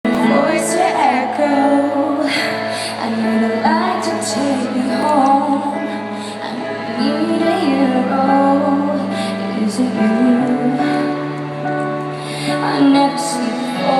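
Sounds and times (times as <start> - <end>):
woman singing: 0.0 - 11.3, 12.4 - 13.9.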